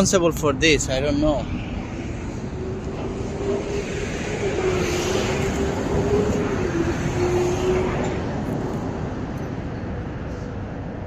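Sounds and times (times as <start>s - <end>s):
vehicle passing: 0.6s - 11.0s.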